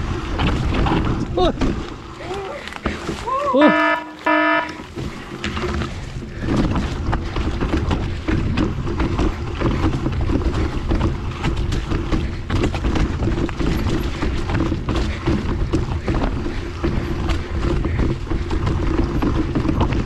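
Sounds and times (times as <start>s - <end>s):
steady rumble: 0.0s - 20.0s.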